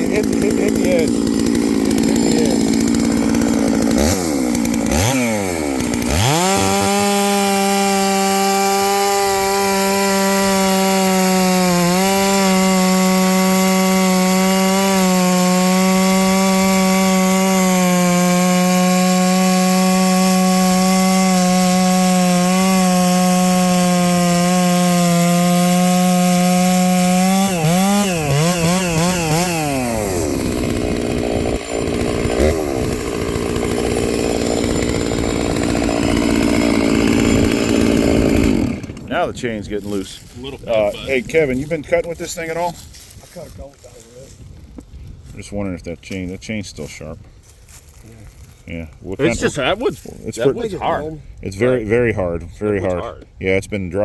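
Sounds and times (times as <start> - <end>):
chainsaw revving: 0.0 - 41.8, 49.1 - 51.1
chainsaw cutting wood: 0.0 - 44.9, 47.2 - 53.4.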